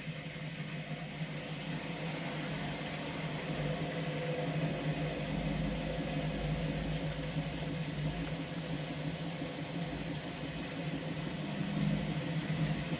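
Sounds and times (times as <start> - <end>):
washing machine running: 0.0 - 12.9.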